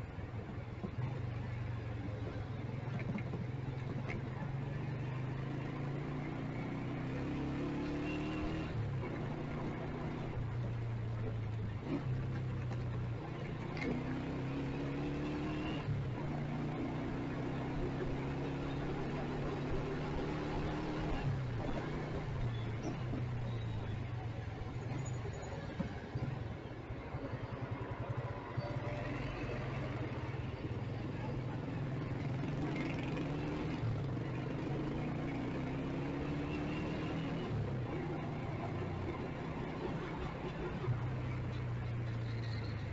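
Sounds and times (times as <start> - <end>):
street and road noise: 0.0 - 42.9.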